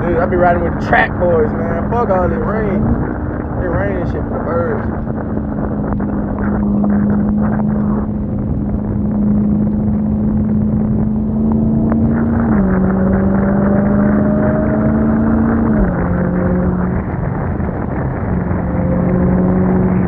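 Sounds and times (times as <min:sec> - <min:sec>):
car engine cruising: 0:00.0 - 0:20.0.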